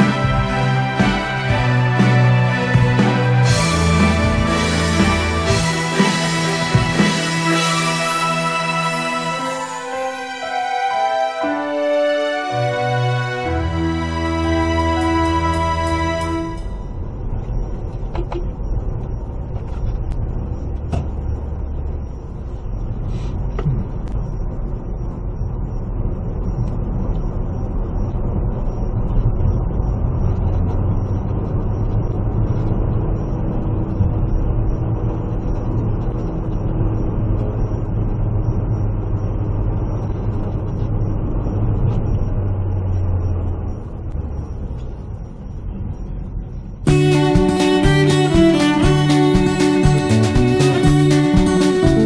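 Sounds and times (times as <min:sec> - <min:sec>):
tyres on road: 0:00.0 - 0:52.0
vehicle engine hum: 0:00.0 - 0:52.0.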